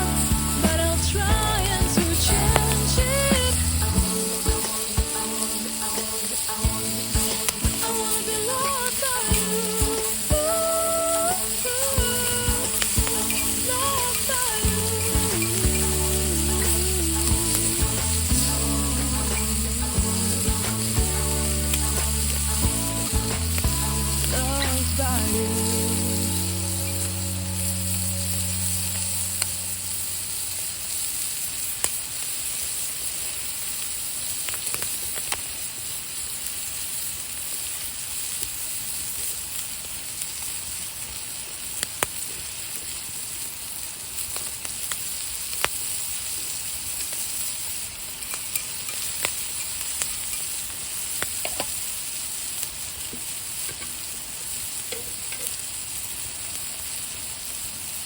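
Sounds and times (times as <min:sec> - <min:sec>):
steak sizzling on a griddle: 0:00.0 - 0:58.0.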